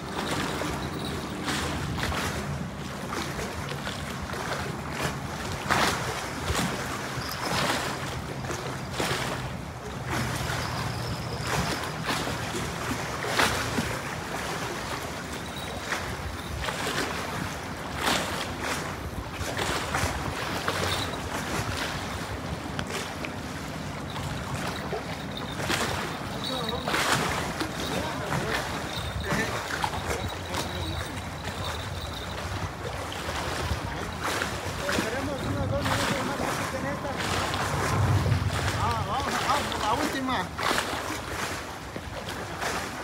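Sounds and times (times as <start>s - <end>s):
water lapping at shore: 0.0s - 43.0s
wind on microphone: 0.0s - 43.0s.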